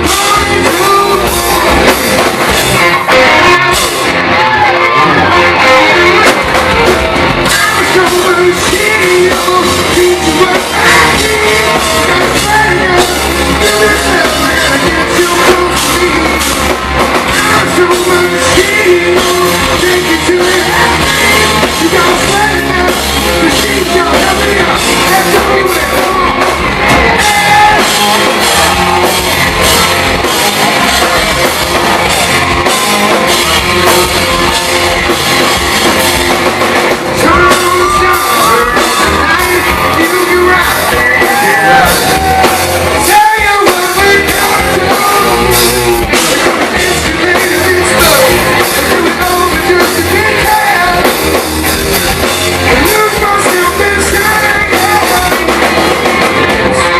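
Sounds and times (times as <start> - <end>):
person singing: 0.0 - 51.4, 52.2 - 56.9
distorted electric guitars: 0.0 - 56.9
drum kit: 0.0 - 56.9.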